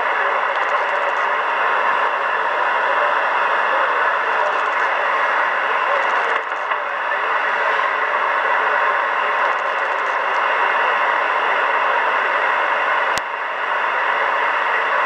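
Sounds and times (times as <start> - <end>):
radio receiver static hiss: 0.0 - 15.0.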